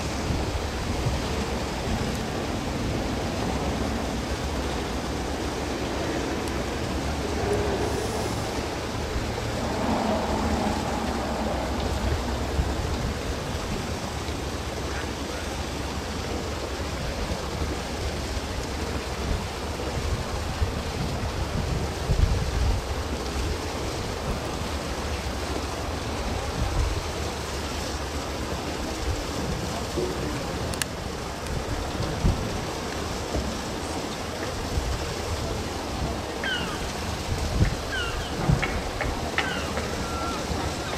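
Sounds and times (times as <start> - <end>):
harbour ambience: 0.0 - 40.9
wind buffeting microphone: 0.0 - 40.9.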